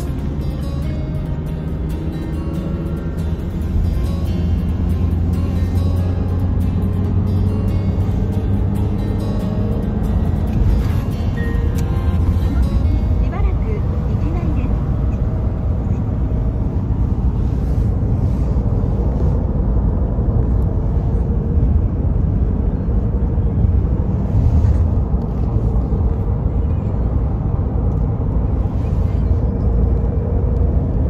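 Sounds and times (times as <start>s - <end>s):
car cabin low rumble: 0.0s - 31.0s.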